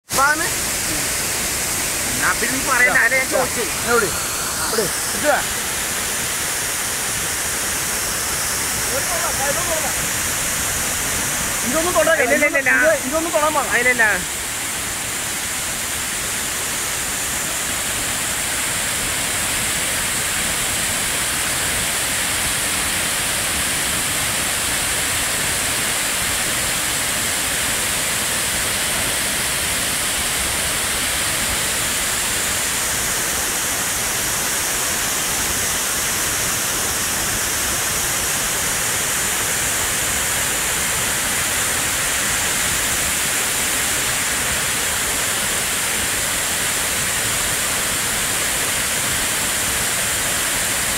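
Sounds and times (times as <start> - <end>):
waterfall pouring onto rocks: 0.1 - 50.9.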